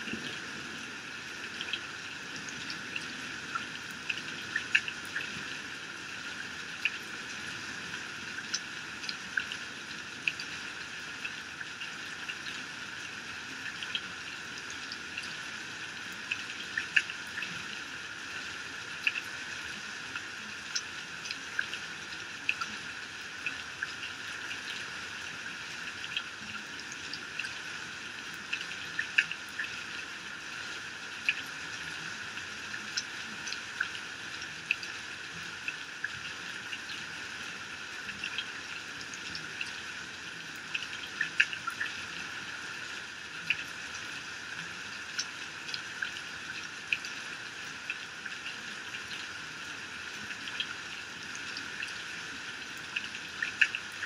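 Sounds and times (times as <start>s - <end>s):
water drips and splashes: 0.0s - 54.0s.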